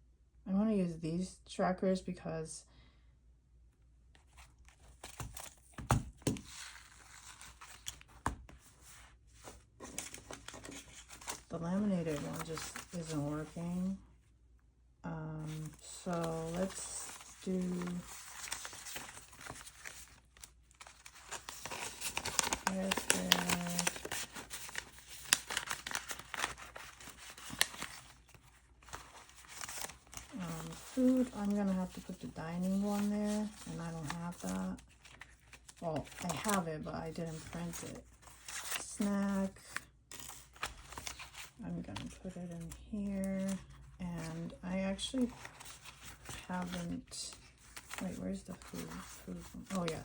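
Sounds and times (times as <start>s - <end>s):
paper and plastic crinkling: 4.2s - 14.0s, 15.4s - 50.0s.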